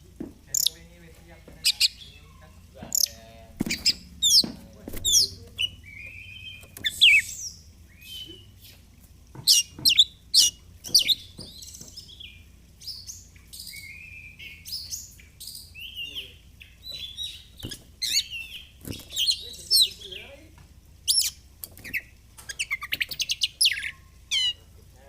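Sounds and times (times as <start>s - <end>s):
faint low hum: 0.0s - 25.0s
bird singing whistled notes: 2.9s - 8.8s, 9.5s - 20.3s, 21.0s - 24.6s.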